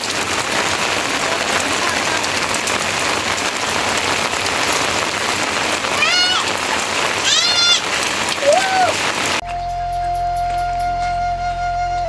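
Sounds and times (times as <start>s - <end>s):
steady rain hiss: 0.0s - 11.4s.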